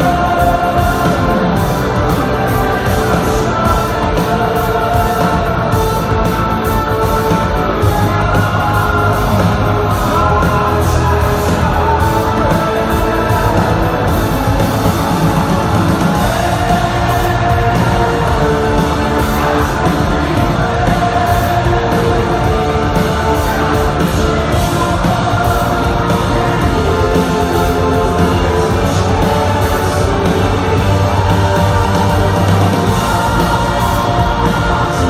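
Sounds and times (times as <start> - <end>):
distorted guitar: 0.0 - 35.0
rock band playing live: 0.0 - 35.0.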